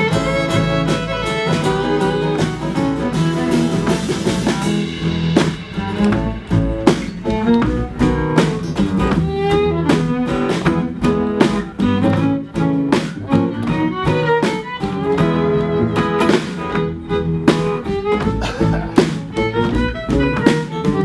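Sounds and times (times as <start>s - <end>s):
fiddle melody: 0.0s - 21.0s
strummed acoustic guitars: 0.0s - 21.0s
upright bass: 0.0s - 21.0s.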